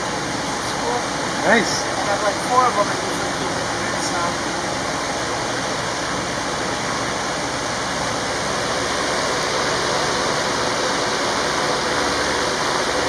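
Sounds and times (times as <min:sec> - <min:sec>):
faint steady hum: 0:00.0 - 0:13.0
fans blowing air: 0:00.0 - 0:13.0.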